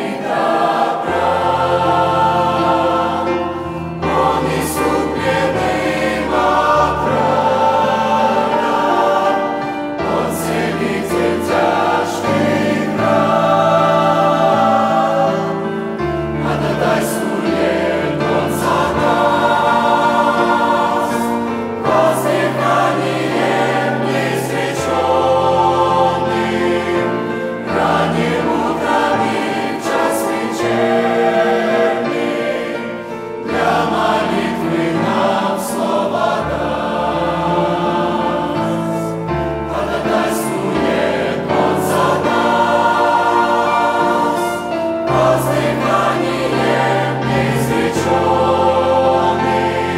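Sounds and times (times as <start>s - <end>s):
church choir singing a hymn: 0.0s - 49.9s.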